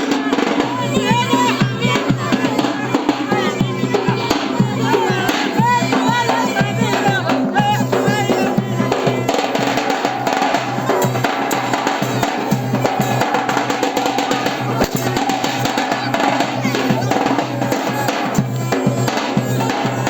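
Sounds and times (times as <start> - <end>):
fast dense drumming: 0.0 - 20.0.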